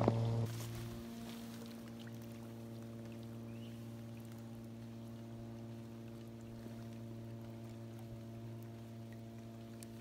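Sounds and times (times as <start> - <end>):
steady low hum: 0.0 - 10.0
water splashing and sloshing: 0.0 - 10.0.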